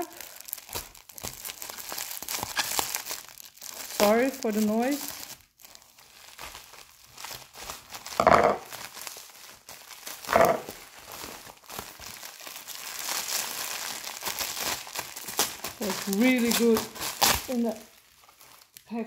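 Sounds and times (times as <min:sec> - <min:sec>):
bubble wrap bursts: 0:00.0 - 0:18.9
bubble wrap crinkling and crackling: 0:00.0 - 0:19.0.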